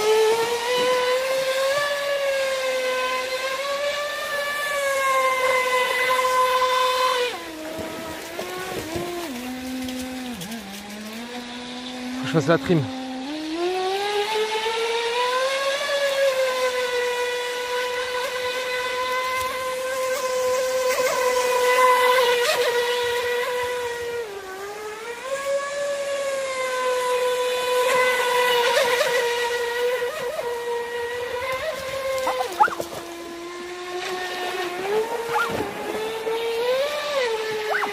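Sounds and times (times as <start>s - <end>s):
electric motor whining: 0.0s - 37.9s.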